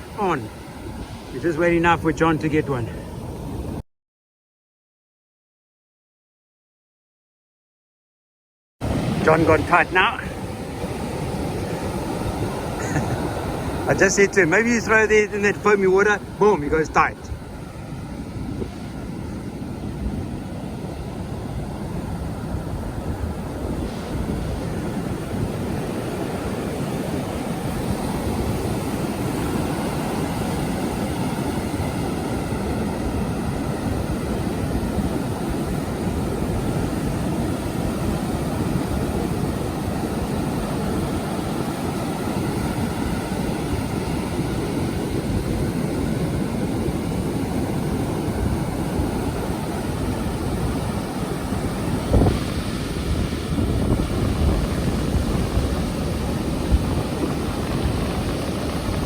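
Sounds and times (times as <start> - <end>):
surf breaking on beach: 0.0 - 3.8, 8.8 - 59.0
wind buffeting microphone: 8.8 - 59.0.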